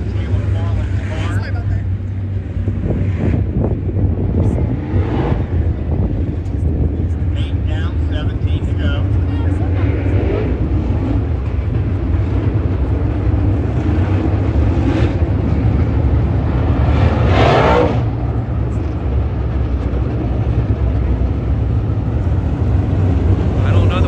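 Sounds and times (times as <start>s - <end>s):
race car engines running: 0.0s - 24.0s.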